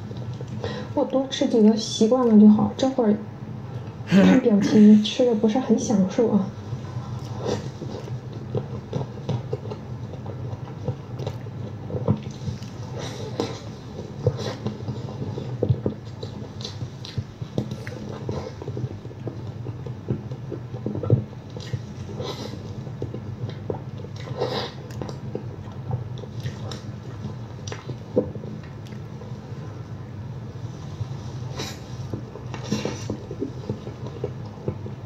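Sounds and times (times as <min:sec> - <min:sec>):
wet chewing mouth sounds: 0:00.0 - 0:01.0, 0:06.6 - 0:29.9, 0:30.7 - 0:35.0
steady low hum: 0:00.0 - 0:35.0.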